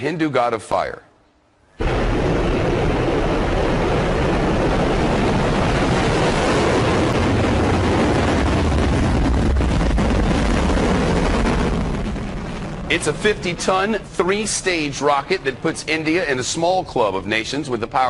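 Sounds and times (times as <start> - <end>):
rocket motor roaring: 1.8 - 16.4.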